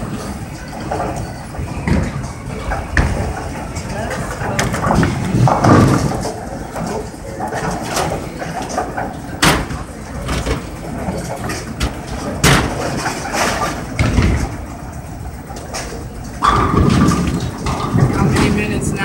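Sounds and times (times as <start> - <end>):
balls and pins clattering: 0.0 - 19.0
low rumble of bowling alley: 0.0 - 19.0.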